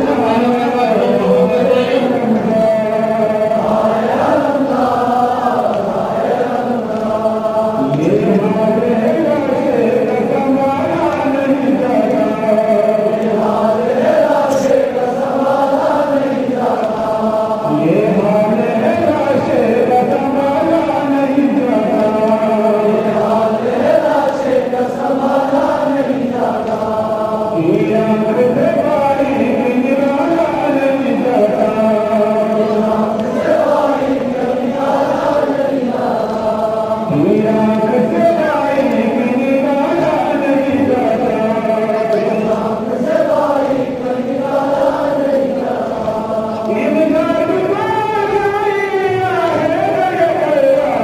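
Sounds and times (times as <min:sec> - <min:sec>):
men chanting a mourning lament: 0:00.0 - 0:51.0.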